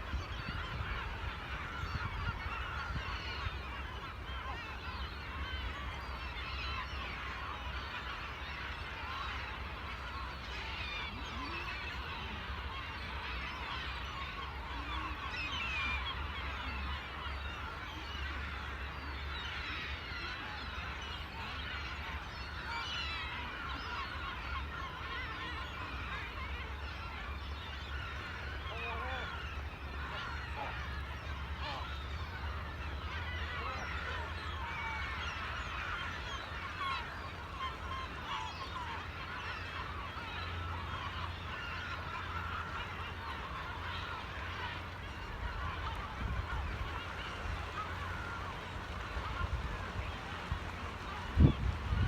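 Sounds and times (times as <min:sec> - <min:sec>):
seagulls calling: 0:00.0 - 0:52.0.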